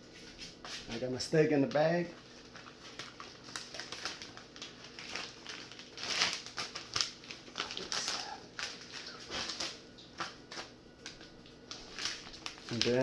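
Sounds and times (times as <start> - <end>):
plastic bag crinkling: 1.6 - 13.0.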